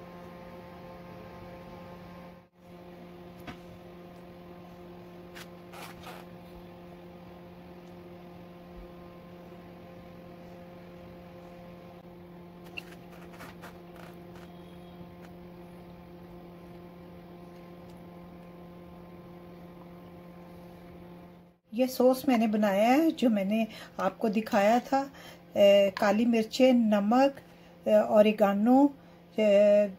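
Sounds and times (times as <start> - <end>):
low electrical hum: 0.0 - 29.9.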